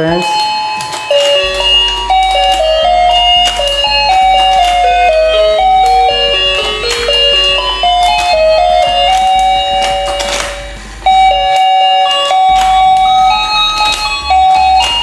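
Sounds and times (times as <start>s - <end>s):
electronic toy melody beeping: 0.0s - 15.0s.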